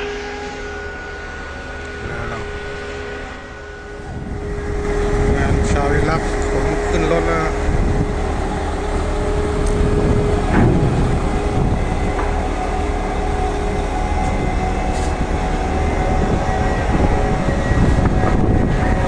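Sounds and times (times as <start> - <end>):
constant whining tones: 0.0 - 19.0
vehicle engine rumble: 0.0 - 19.0.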